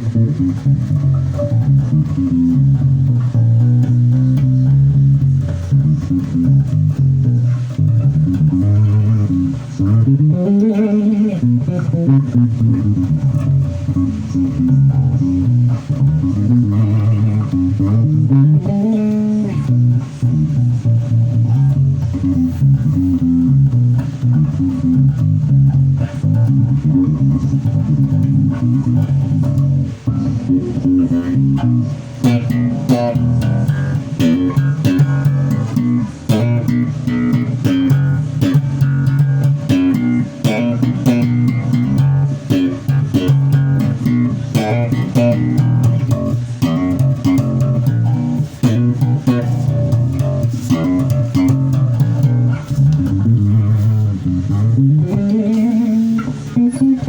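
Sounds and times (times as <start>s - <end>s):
bass guitar plucked notes: 0.0s - 57.0s.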